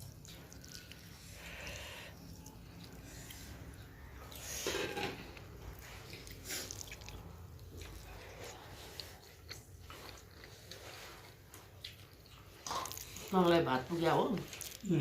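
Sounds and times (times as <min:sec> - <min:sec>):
person chewing: 0:00.0 - 0:13.3, 0:14.4 - 0:15.0.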